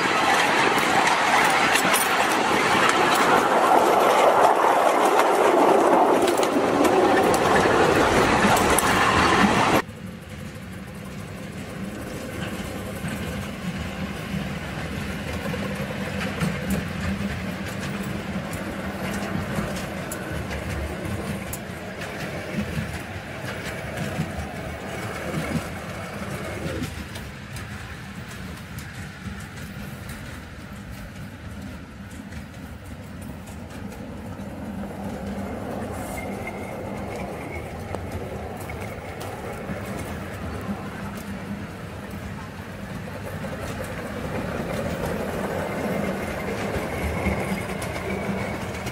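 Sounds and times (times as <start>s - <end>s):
miniature steam locomotive running: 0.0s - 48.9s.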